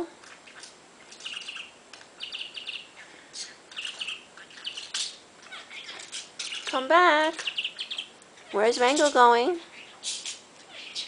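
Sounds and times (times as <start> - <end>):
budgerigar chirping: 0.3 - 3.1, 3.7 - 9.1, 9.7 - 11.0.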